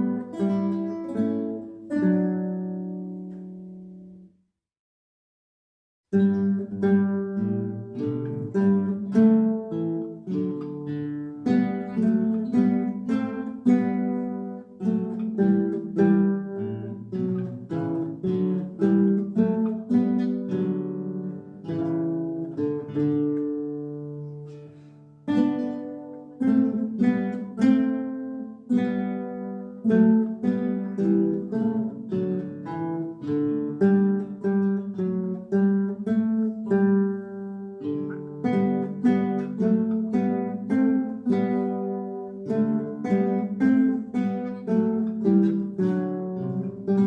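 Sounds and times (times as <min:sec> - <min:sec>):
acoustic guitars playing chords: 0:00.0 - 0:04.3, 0:06.1 - 0:47.0.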